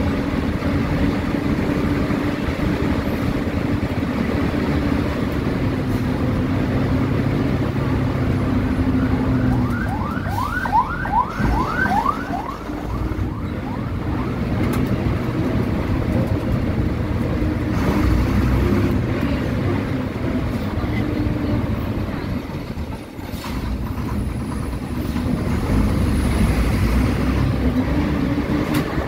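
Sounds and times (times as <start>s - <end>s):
bus diesel engine drone: 0.0s - 29.0s.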